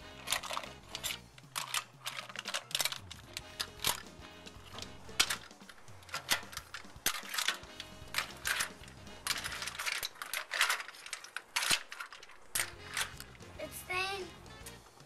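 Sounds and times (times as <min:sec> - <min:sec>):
shells clattering in a pan: 0:00.0 - 0:13.5
background music: 0:00.0 - 0:15.0.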